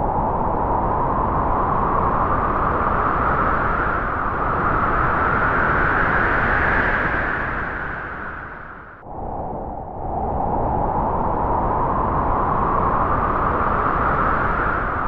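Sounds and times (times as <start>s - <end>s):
strong wind gusting: 0.0s - 15.0s.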